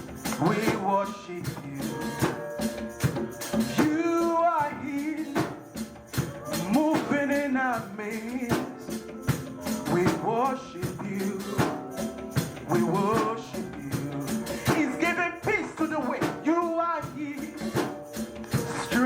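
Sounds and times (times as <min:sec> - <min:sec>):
percussion beat: 0:00.0 - 0:19.0.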